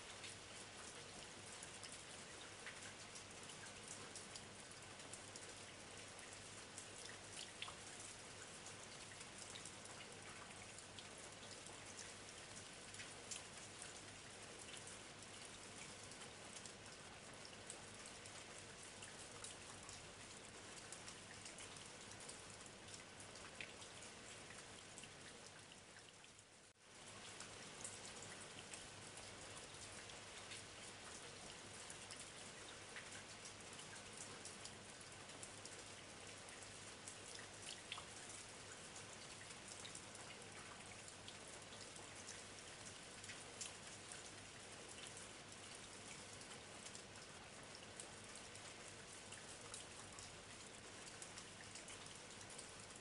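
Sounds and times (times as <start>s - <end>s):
faint light rain falling: 0.0s - 53.0s.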